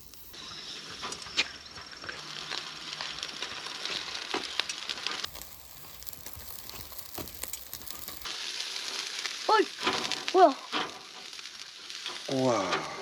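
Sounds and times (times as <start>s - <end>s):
fire crackles and pops: 0.0s - 13.0s
fish sizzling on a grill: 0.0s - 13.0s.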